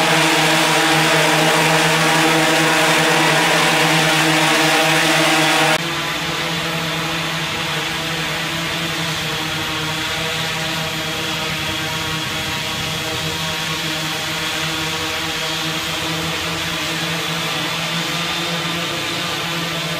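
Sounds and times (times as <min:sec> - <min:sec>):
drone propellers buzzing: 0:00.0 - 0:19.9.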